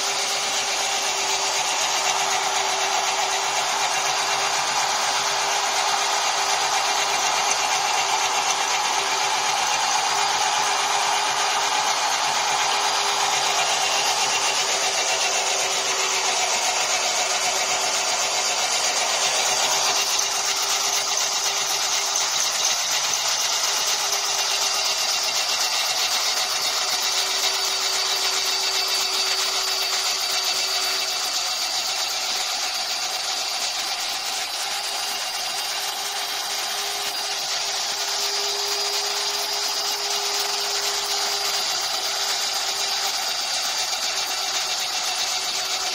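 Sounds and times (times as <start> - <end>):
chaff cutter motor hum: 0.0 - 45.9.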